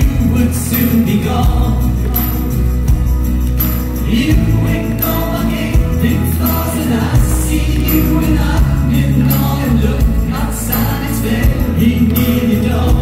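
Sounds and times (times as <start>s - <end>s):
man singing: 0.0s - 2.8s, 4.0s - 13.0s
bass guitar: 0.0s - 13.0s
drums with cymbals: 0.0s - 13.0s
guitars: 0.0s - 13.0s
keyboard: 0.0s - 13.0s.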